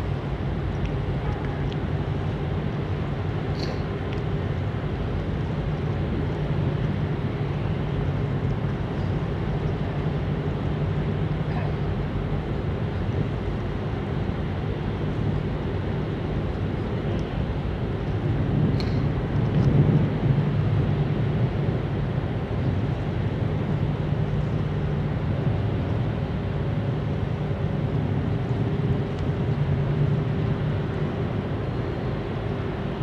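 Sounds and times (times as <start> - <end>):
ship engines droning: 0.0 - 33.0.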